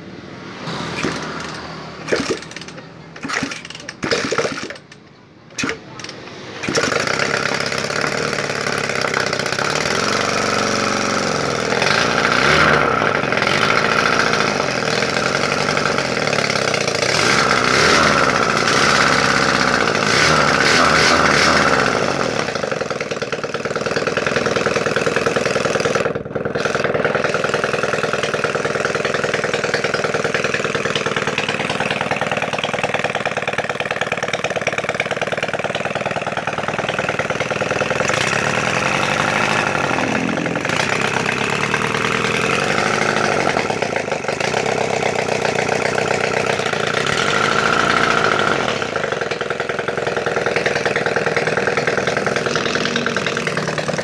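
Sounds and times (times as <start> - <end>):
two-cylinder engine revving and idling: 0.0 - 54.0.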